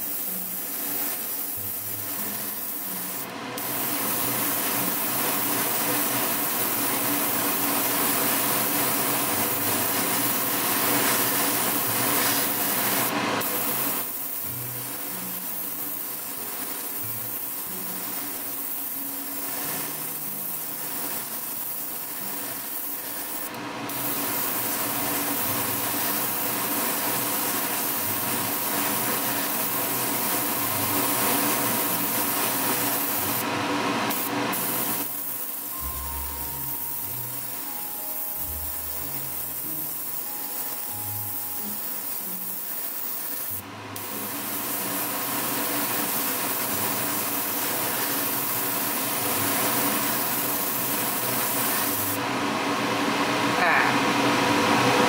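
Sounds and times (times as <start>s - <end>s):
airbrush hissing: 0.0s - 33.5s, 34.1s - 52.2s.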